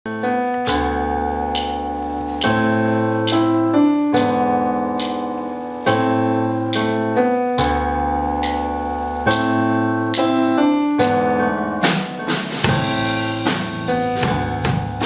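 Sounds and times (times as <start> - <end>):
piano chords: 0.1 - 15.0.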